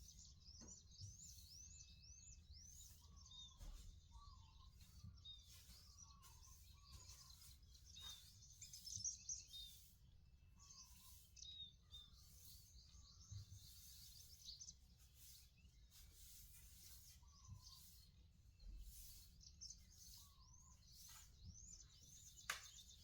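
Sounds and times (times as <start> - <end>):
birds chirping and trilling: 0.0 - 23.0.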